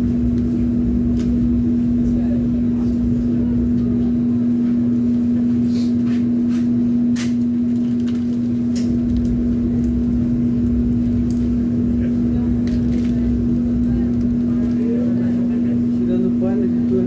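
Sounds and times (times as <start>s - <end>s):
low rumble: 0.0s - 5.6s, 7.1s - 17.0s
electric machine hum: 0.0s - 17.0s.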